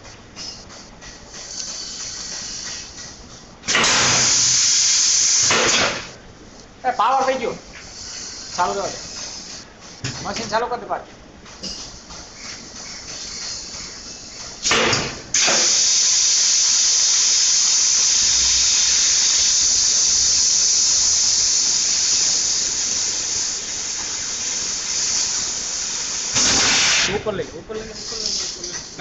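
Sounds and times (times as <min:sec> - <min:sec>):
high hiss of rushing air: 0:00.0 - 0:06.2, 0:07.2 - 0:09.7, 0:11.8 - 0:27.3
machine starting burst: 0:01.3 - 0:06.2, 0:07.9 - 0:10.0, 0:12.6 - 0:29.0.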